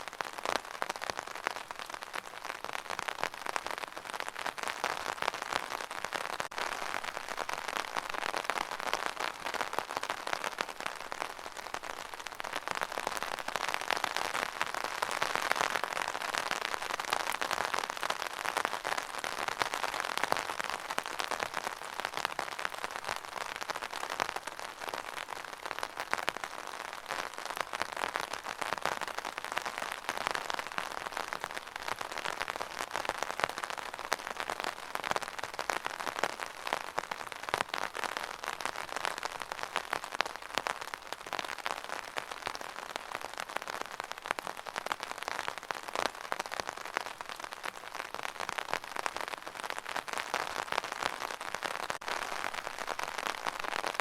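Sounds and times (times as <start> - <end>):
rain falling on hard surface: 0.0 - 54.0.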